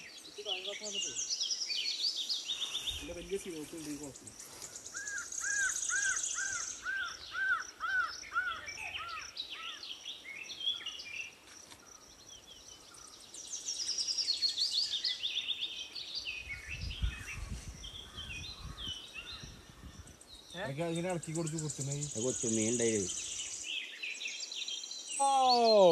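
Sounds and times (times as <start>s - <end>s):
birds calling and singing: 0.0s - 25.9s.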